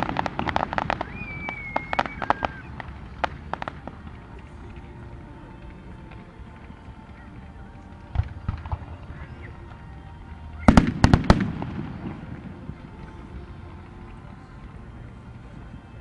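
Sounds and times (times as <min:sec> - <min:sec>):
fireworks bangs: 0:00.0 - 0:16.0
low rumble of fireworks display: 0:00.0 - 0:16.0.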